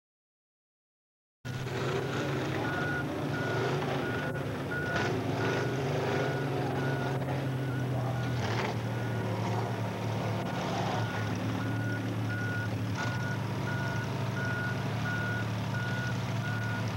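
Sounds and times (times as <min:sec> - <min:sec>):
off-road vehicle engines droning: 0:01.5 - 0:16.9.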